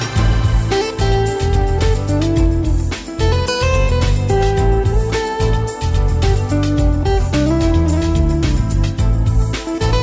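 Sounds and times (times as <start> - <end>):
bass line with steady beat: 0.0 - 10.0
guitar melody: 0.0 - 10.0.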